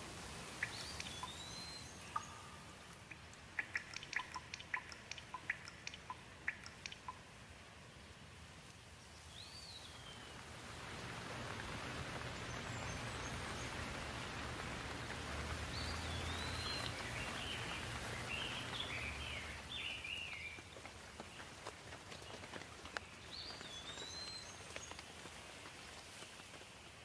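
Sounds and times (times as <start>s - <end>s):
birds chirping: 0.4s - 7.2s, 9.1s - 25.2s.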